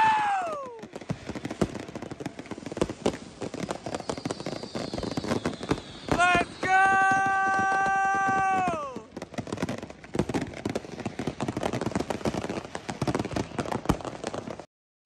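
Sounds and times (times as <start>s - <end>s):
fireworks crackling and banging: 0.0s - 14.7s.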